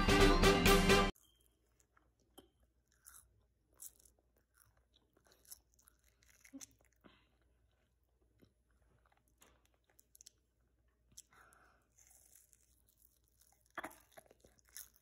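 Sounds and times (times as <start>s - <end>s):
child chewing with lips smacking: 1.2s - 15.0s.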